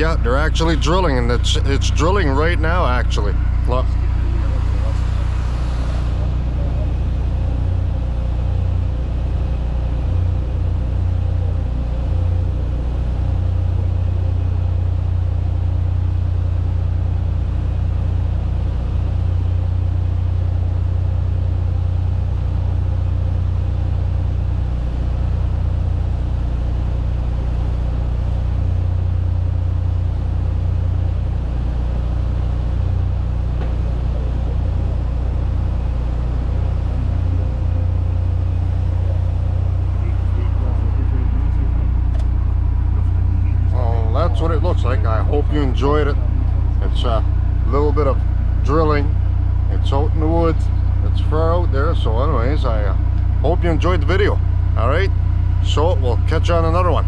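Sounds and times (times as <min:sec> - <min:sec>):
drilling rig engine drone: 0:00.0 - 0:57.0.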